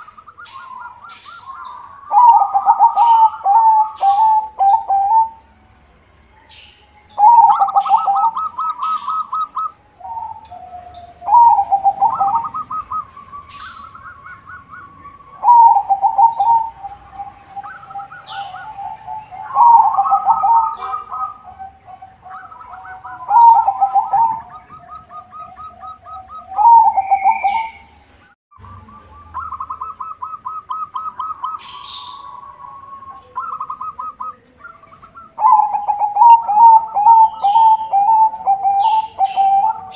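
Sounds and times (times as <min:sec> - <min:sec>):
dove cooing: 0:00.0 - 0:05.6, 0:06.4 - 0:28.0, 0:28.8 - 0:39.9
small birds chirping: 0:00.0 - 0:39.9.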